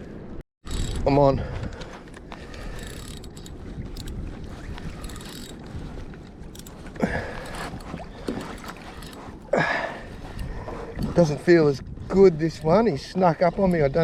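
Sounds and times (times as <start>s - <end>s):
wind on microphone: 0.6s - 14.0s
water moving around kayak: 1.8s - 14.0s.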